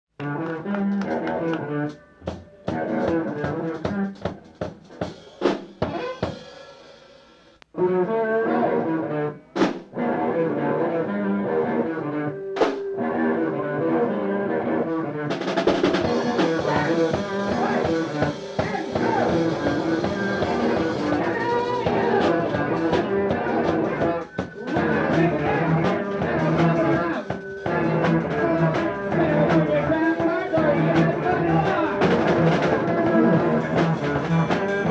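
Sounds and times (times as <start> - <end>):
rock band playing: 0.2 - 34.9.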